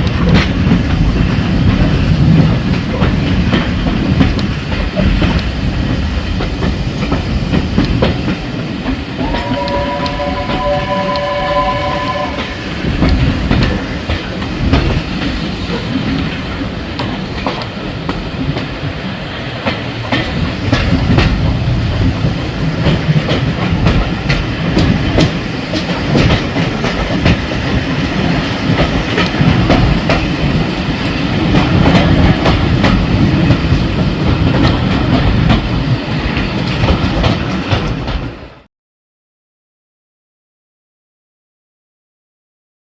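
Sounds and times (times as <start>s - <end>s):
train wheels clacking on rails: 0.0s - 38.7s.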